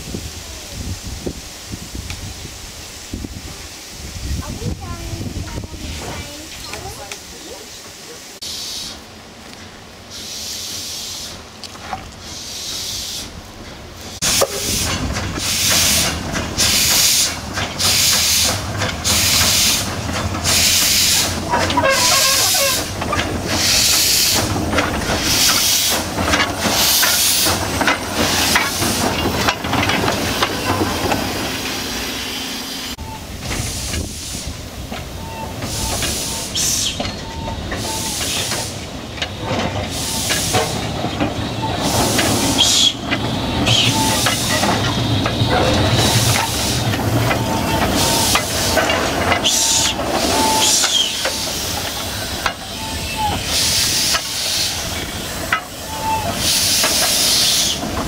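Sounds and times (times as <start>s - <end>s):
steam hissing from locomotive: 0.0s - 58.0s
steam locomotive exhaust chuffs: 8.4s - 58.0s.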